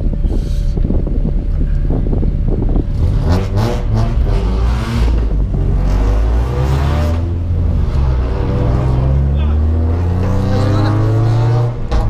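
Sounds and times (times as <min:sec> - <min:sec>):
car engine revving: 0:02.1 - 0:12.0.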